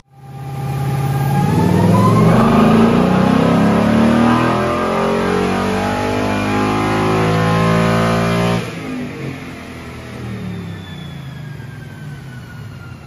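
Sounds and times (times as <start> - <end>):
car engine revving at full throttle: 0.4 - 10.9.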